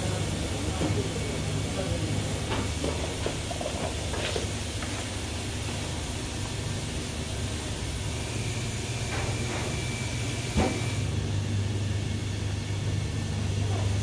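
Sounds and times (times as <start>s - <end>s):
kitchen equipment hiss and hum: 0.0s - 14.0s.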